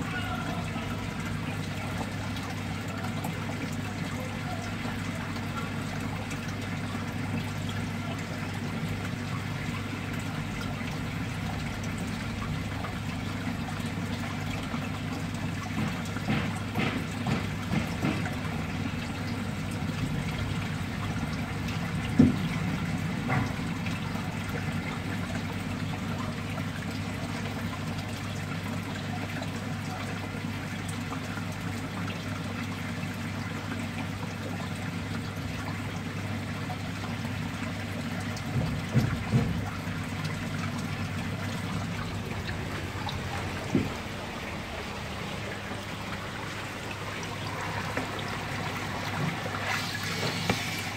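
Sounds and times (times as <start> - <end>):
water trickling in a tank: 0.0 - 50.9.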